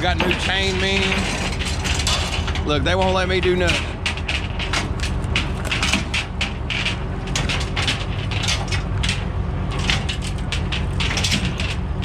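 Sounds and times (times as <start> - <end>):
metal chains clicking and clanking: 0.0 - 12.0
truck engine idling: 0.0 - 12.0.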